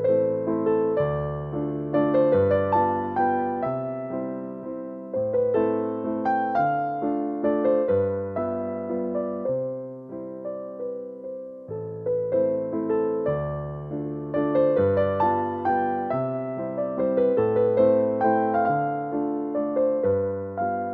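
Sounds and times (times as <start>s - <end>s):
electric piano melody: 0.0s - 20.9s.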